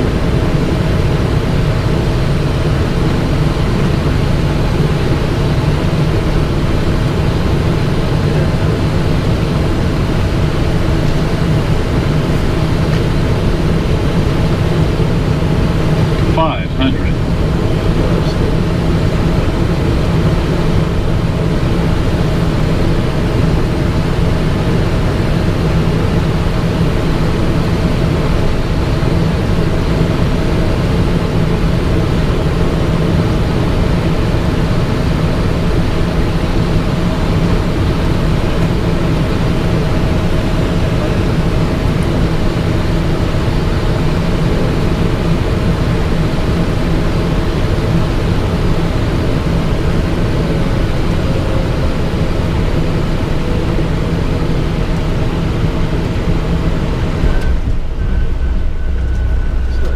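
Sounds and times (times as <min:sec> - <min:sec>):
jet engines idling: 0:00.0 - 0:59.9.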